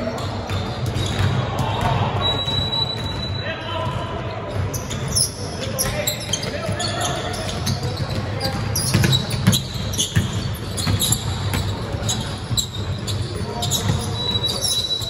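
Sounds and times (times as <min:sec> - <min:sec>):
sneaker squeak: 0:00.0 - 0:15.0
basketball bouncing: 0:00.1 - 0:03.2, 0:05.8 - 0:15.0.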